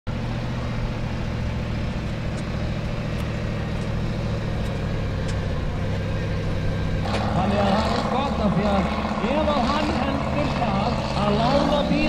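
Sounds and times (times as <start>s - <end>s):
buggy engine running at low revs: 0.1s - 12.0s.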